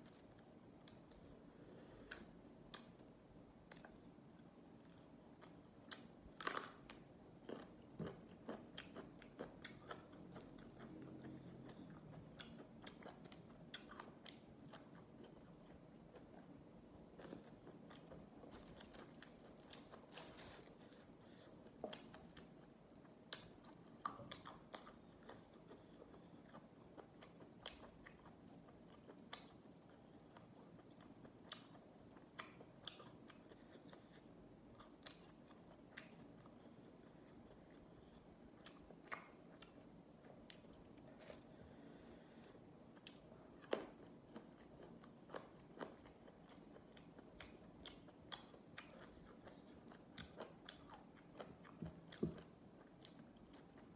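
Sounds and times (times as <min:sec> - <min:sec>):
person chewing crunchy vegetables: 0:04.8 - 0:53.9.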